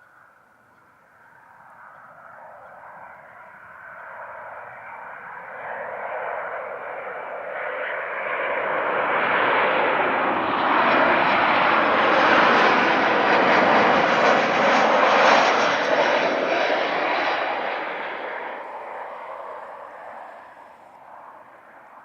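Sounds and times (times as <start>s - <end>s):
jet engines passing: 0.2s - 22.0s.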